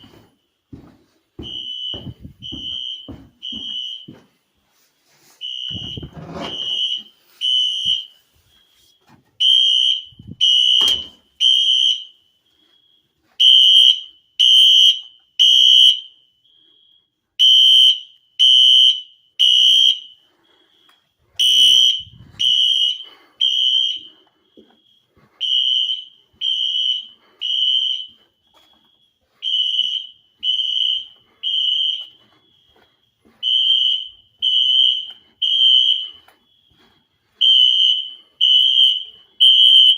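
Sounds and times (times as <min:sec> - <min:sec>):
fire alarm horns blasting: 0:00.0 - 0:39.9.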